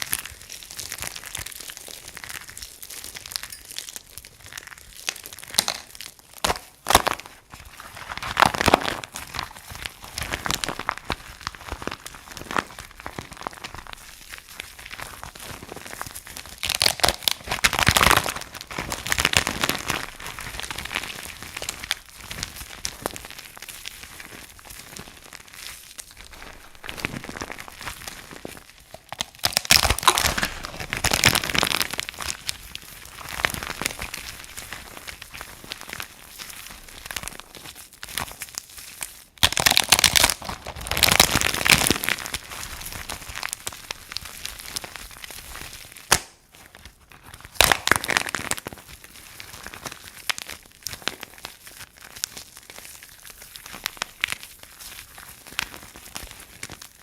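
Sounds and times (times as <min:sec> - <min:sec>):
dry soap crunching and crumbling: 0:00.0 - 0:57.0.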